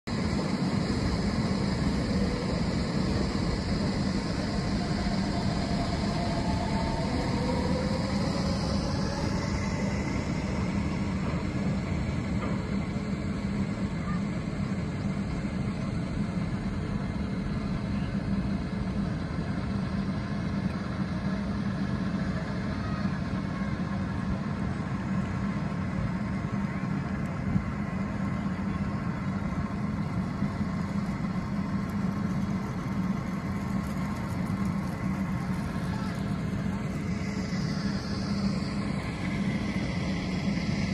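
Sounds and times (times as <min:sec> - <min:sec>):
low hum: 0:00.0 - 0:40.9
train motor whine: 0:00.1 - 0:40.9.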